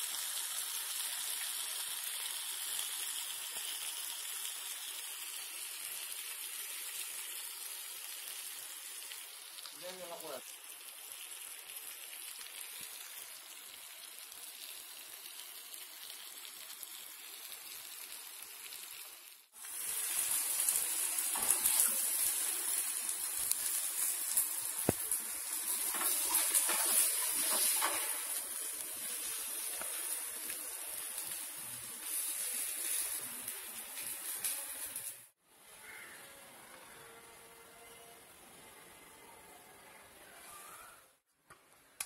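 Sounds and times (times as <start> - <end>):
oil crackling: 0.0 - 36.1
fish frying in oil: 0.0 - 36.2.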